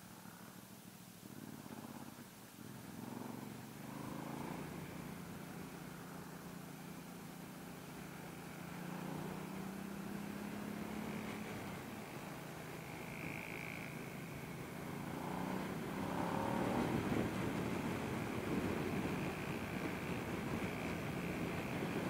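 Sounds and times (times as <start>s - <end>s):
motorcycle engine revving: 1.2s - 22.0s.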